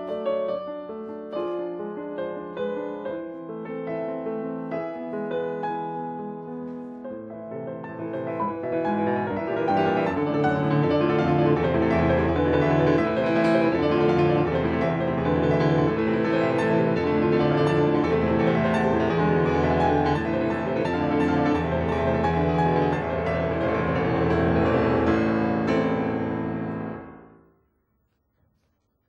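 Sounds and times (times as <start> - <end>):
piano fast run: 0.1 - 27.4.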